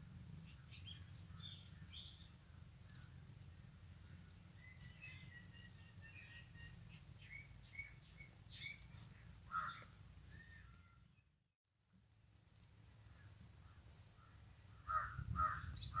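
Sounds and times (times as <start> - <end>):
cricket chirps: 0.0 - 16.0
high insect trill: 0.0 - 16.0.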